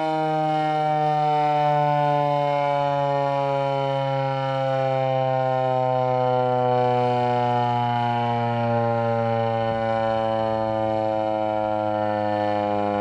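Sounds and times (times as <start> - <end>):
dual-tone warning siren: 0.0 - 13.0.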